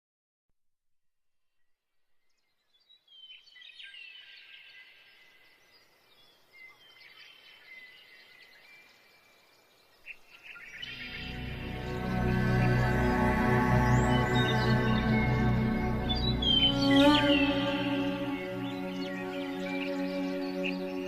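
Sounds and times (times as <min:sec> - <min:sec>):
faint birdsong chirps: 0:01.5 - 0:21.0.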